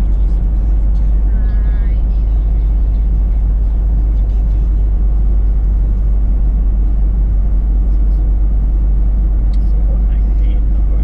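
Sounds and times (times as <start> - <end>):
car driving heard from cabin: 0.0 - 11.0.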